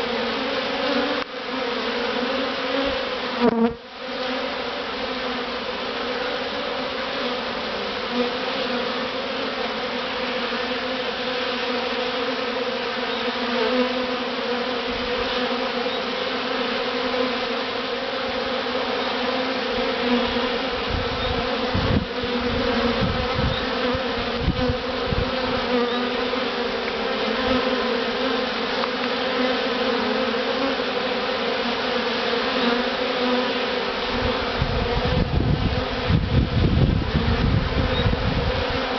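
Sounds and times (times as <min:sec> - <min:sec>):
bee swarm buzzing: 0:00.0 - 0:38.9.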